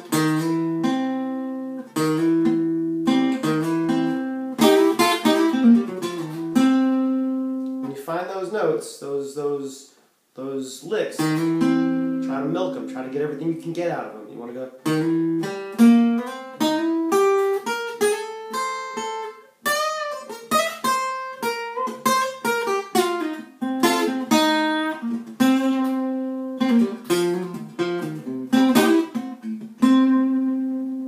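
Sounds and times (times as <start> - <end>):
acoustic guitar blues lick: 0.0 - 8.0, 11.1 - 13.8, 14.8 - 31.0.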